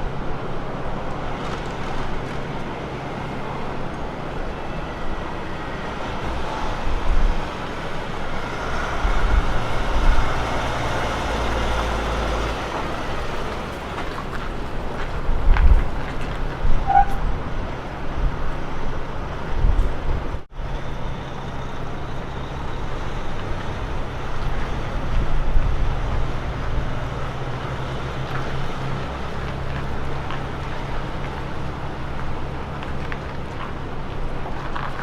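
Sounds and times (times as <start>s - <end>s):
diesel truck engine droning: 0.0s - 35.0s
tyre and road noise: 0.0s - 35.0s.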